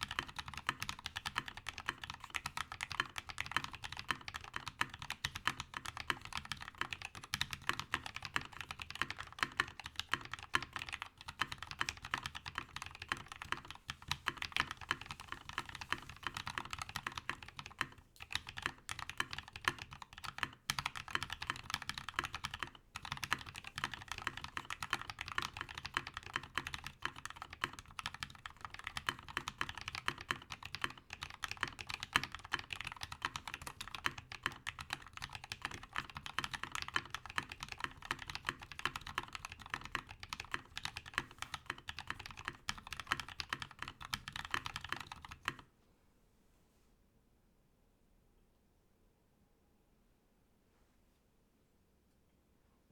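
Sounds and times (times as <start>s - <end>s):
fast typing on mechanical keyboard: 0.0s - 45.7s.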